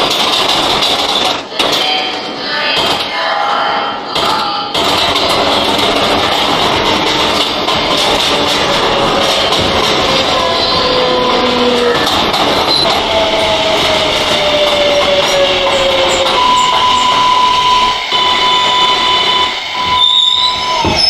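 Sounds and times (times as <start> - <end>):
subway train wheel and track noise: 0.0 - 21.0.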